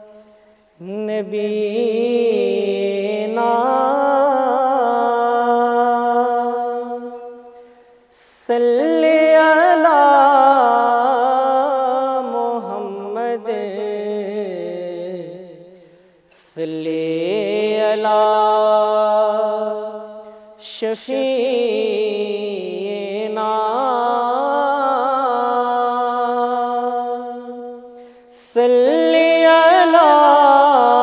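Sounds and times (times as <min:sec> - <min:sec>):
man singing unaccompanied: 0:00.8 - 0:31.0.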